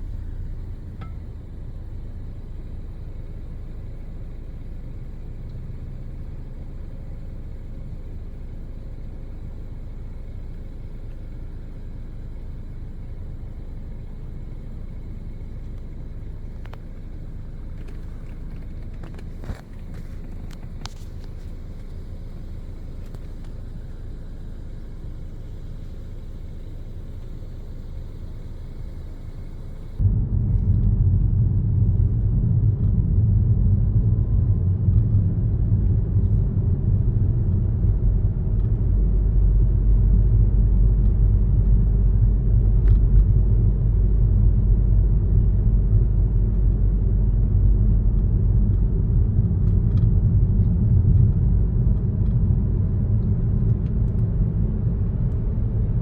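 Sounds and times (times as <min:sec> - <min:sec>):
car tyres and engine rumble: 0:00.0 - 0:56.0.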